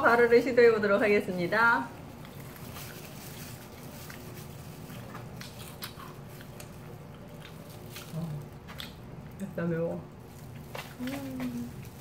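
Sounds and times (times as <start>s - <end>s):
chewing crispy fried chicken: 1.9s - 12.0s.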